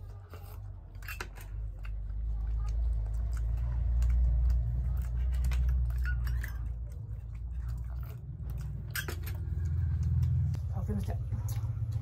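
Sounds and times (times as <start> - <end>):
utensils clicking on plates: 0.0 - 10.4
chewing: 0.0 - 10.7.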